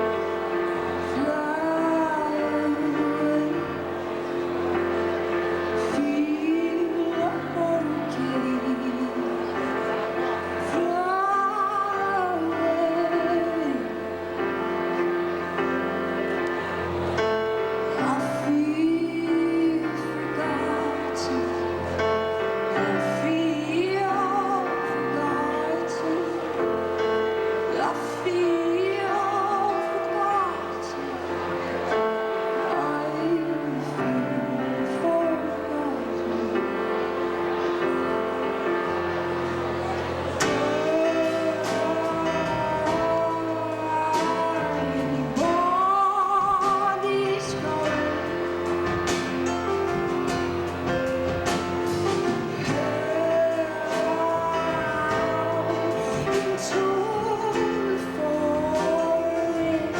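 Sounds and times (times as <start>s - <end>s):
live band playing held chords: 0.0s - 59.9s
singer holding long notes: 0.0s - 59.9s
plucked guitar: 2.4s - 59.9s.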